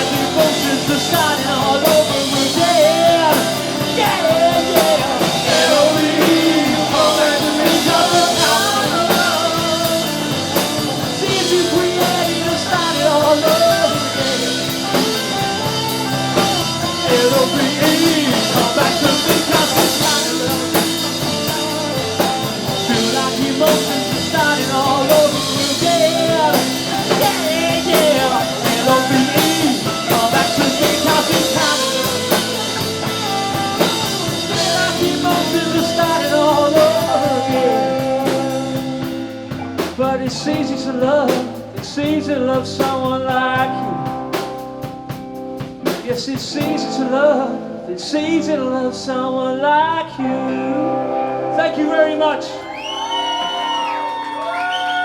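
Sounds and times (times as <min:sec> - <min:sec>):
drum kit: 0:00.0 - 0:47.0
electric guitar lead line: 0:00.0 - 0:55.0.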